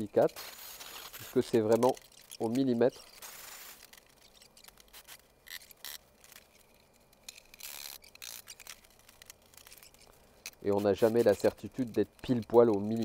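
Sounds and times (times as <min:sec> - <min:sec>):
light scrapes and rubs: 0:00.0 - 0:13.0.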